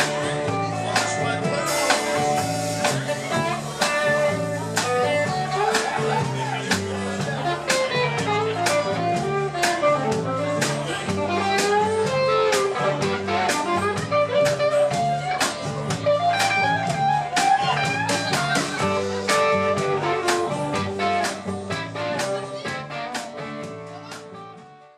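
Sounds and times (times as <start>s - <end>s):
live band playing: 0.0s - 24.9s.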